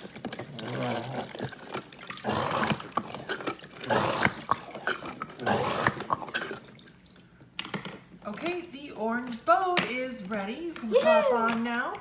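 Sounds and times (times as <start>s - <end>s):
water sloshing in toy playset: 0.0s - 12.0s.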